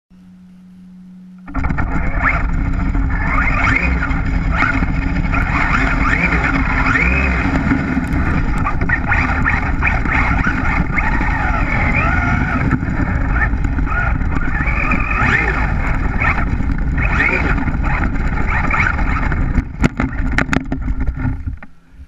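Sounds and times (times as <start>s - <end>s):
faint low hum: 0.1s - 22.0s
electric motor whining: 0.3s - 21.7s
tyres rumbling in slush: 1.6s - 21.3s.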